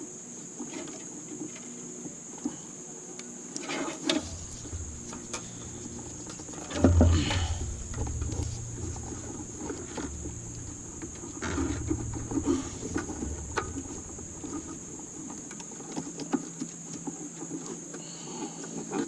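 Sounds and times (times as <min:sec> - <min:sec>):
steady high-pitched whine: 0:00.0 - 0:18.9.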